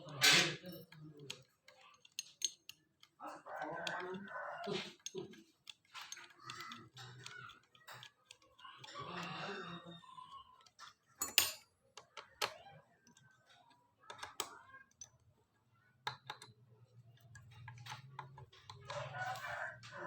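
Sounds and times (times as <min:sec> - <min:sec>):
tools clicking on metal: 0:00.0 - 0:15.3, 0:16.0 - 0:20.0.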